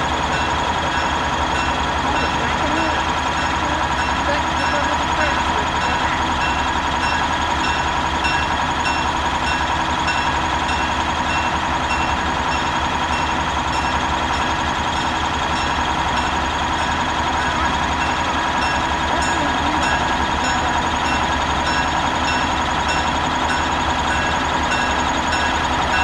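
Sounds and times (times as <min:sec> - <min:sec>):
diesel locomotive engine running: 0:00.0 - 0:26.0
locomotive bell ringing: 0:00.0 - 0:26.0.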